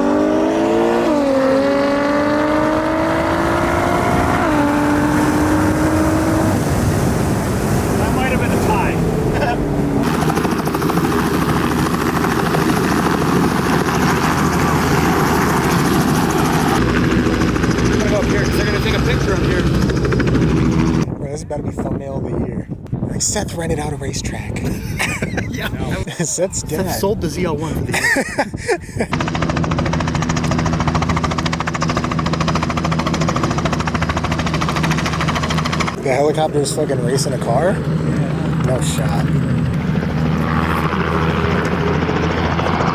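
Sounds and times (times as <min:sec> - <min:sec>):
helicopter rotor chop: 0:00.0 - 0:21.2, 0:26.7 - 0:42.9.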